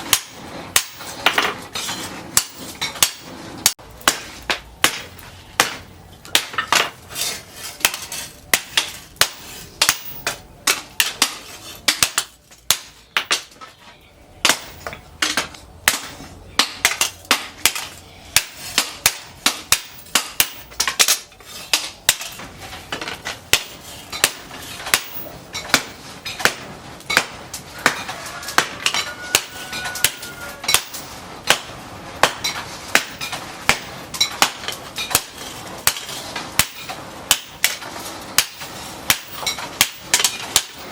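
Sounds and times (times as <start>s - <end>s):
hammer striking steel on anvil: 0.0s - 7.0s, 7.7s - 13.6s, 14.4s - 40.9s.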